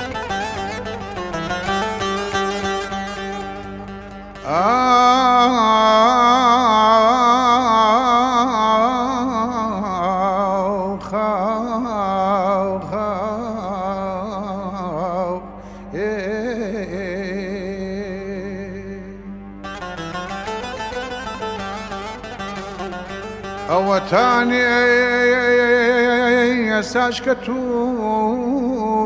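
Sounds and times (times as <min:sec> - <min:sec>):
ornamented melody with heavy vibrato: 0:00.0 - 0:11.7, 0:16.0 - 0:27.7.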